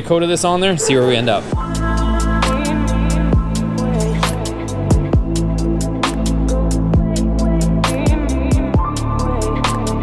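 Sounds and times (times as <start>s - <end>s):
electronic beat with hi-hat: 1.5s - 10.0s
deep bass: 1.6s - 10.0s.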